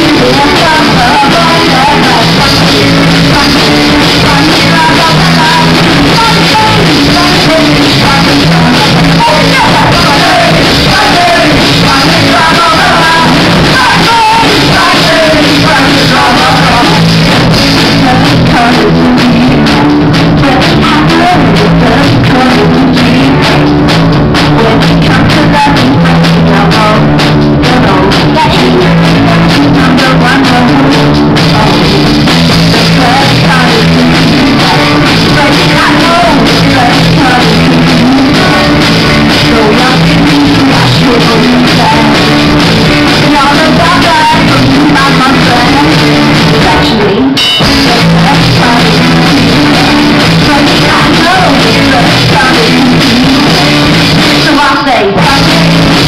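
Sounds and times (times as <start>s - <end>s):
bass guitar: 0.0s - 56.0s
drum kit: 0.0s - 56.0s
electric guitars: 0.0s - 56.0s
person singing lead vocals: 0.0s - 56.0s.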